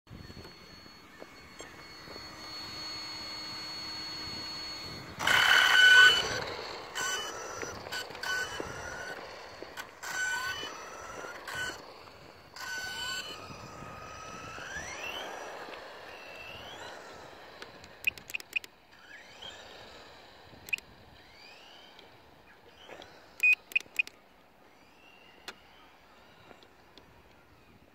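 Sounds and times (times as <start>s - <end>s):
electric motor whining: 0.1s - 27.8s.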